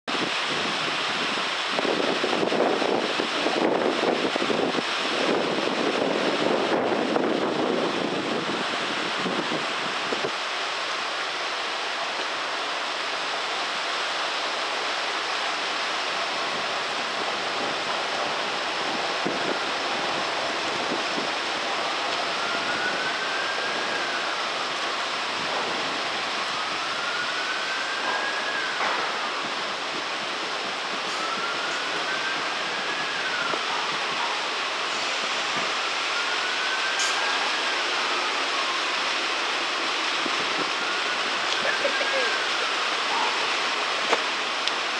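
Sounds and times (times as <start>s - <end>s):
wind on microphone: 0.1s - 10.4s, 16.1s - 38.7s, 39.8s - 44.9s
heavy rain: 0.1s - 44.9s.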